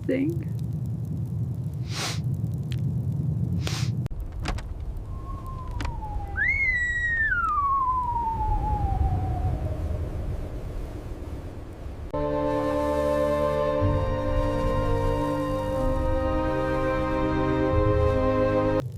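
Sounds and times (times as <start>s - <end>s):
blizzard wind rumble: 0.0s - 18.9s.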